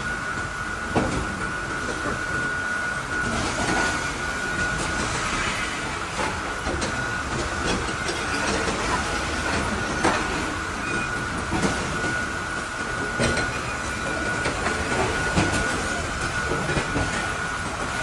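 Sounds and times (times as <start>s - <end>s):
machinery high whine: 0.0s - 18.0s.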